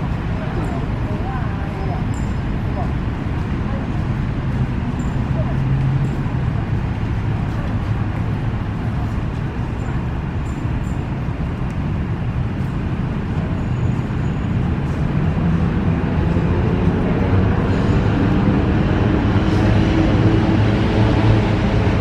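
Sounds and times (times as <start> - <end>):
road traffic noise: 0.0 - 22.0
vehicle engine: 0.0 - 22.0.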